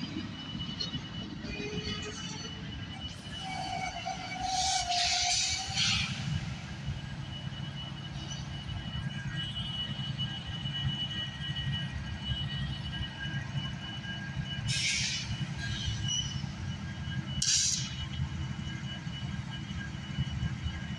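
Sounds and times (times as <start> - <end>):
diesel locomotive engine rumbling: 0.0 - 20.9
steady high-pitched tone: 0.0 - 20.9.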